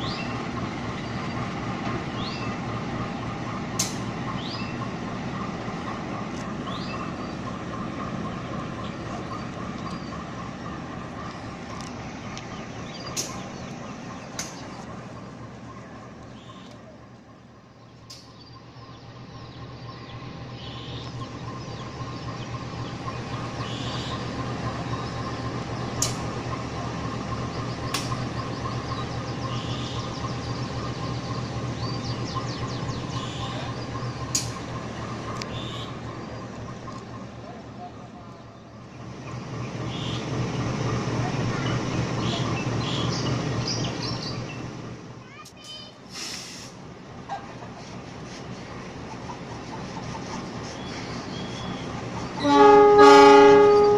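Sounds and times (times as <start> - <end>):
diesel locomotive running: 0.0 - 53.9.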